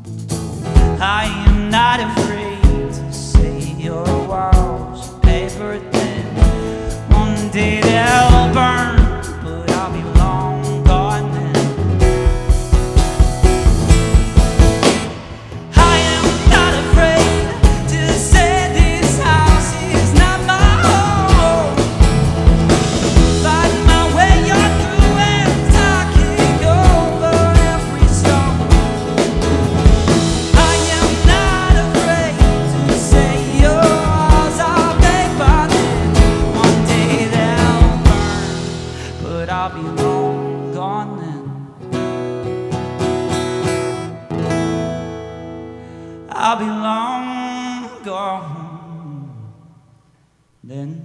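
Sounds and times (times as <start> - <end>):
guitar chords strummed: 0.0 - 46.2
live rock band playing: 0.0 - 46.3.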